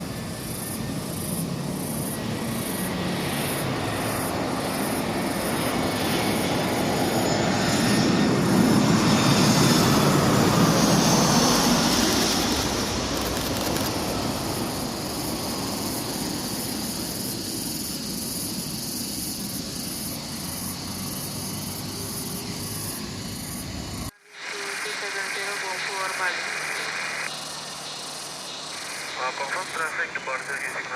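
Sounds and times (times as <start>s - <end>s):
jet airliner engines passing: 0.0s - 30.9s.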